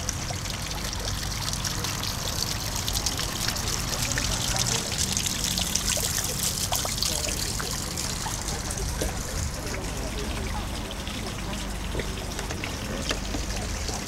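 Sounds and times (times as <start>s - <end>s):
small crackling drips: 0.0s - 14.0s
water trickling and splashing: 0.0s - 14.0s.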